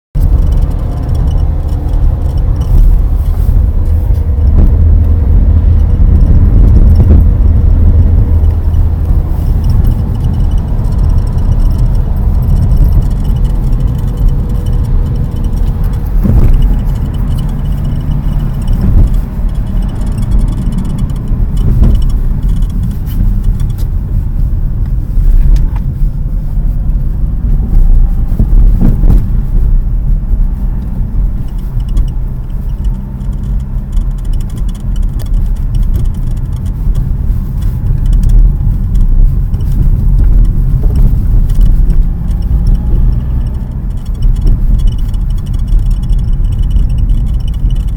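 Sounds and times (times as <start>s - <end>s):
car rumbling while moving: 0.0s - 47.9s.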